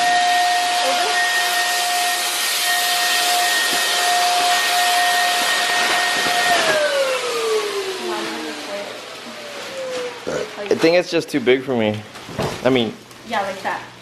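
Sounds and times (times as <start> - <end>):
vacuum cleaner motor running: 0.0 - 11.6.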